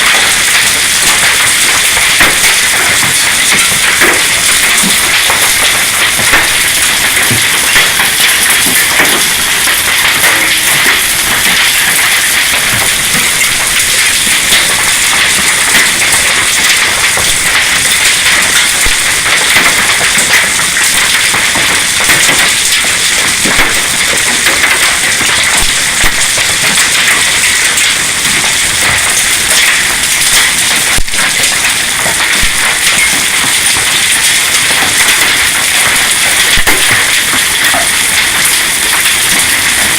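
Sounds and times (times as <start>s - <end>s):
hailstones clattering: 0.0s - 39.9s.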